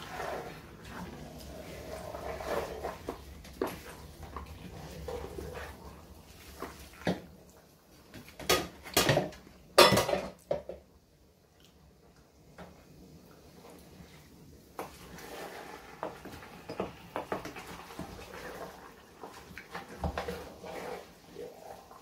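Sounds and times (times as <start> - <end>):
wooden spoon stirring soup: 0.0 - 9.5, 12.0 - 22.0.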